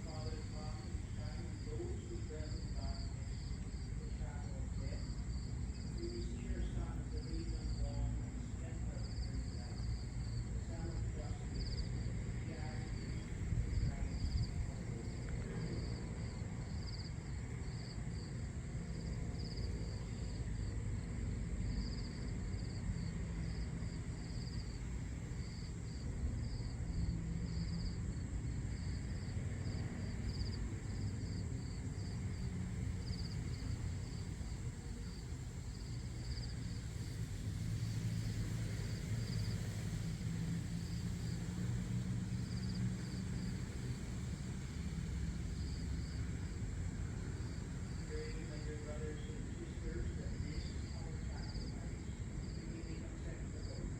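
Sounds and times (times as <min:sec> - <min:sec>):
insects chirping: 0:00.0 - 0:53.9
steady low rumble: 0:00.0 - 0:53.9.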